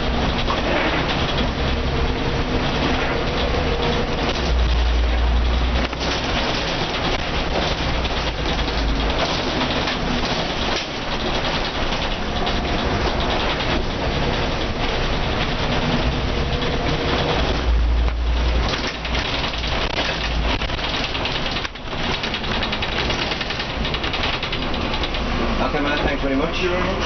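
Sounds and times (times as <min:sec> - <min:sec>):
body panels rattling: 0:00.0 - 0:26.6
bus diesel engine pulling: 0:00.0 - 0:27.0
heavy low rumble: 0:00.0 - 0:27.0
road noise: 0:00.0 - 0:27.0.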